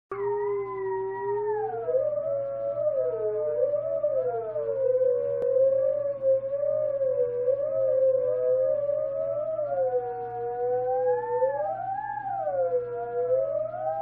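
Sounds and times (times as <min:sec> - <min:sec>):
theremin gliding tones: 0:00.1 - 0:14.0.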